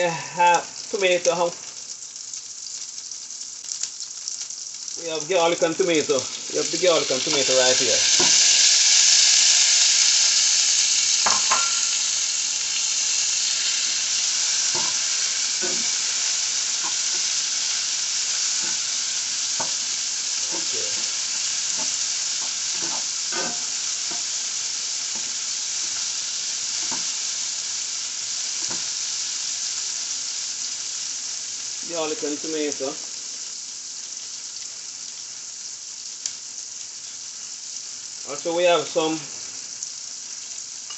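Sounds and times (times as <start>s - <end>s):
vegetables sizzling in oil: 0.0s - 40.9s.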